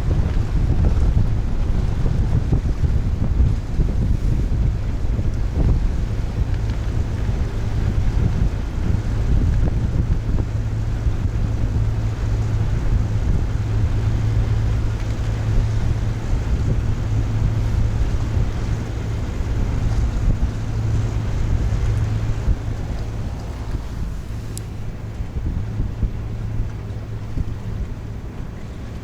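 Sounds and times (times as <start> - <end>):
boat engine droning: 0.0 - 29.0
wind buffeting microphone: 0.0 - 29.0.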